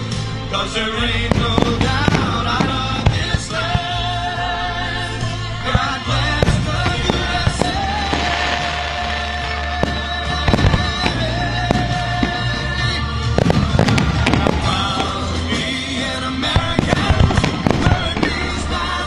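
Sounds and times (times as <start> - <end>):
fireworks bursting: 0.0 - 19.0
music: 0.0 - 19.0.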